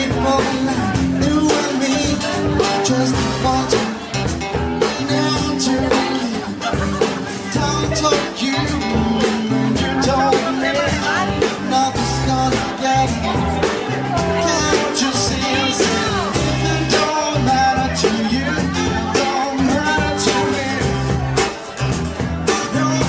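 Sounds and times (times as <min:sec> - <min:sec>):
person singing: 0:00.0 - 0:23.0
steady drum beat: 0:00.0 - 0:23.0.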